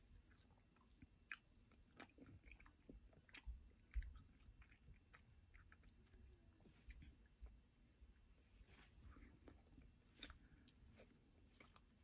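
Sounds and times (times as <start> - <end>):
faint chewing of crispy food: 0.0 - 12.0.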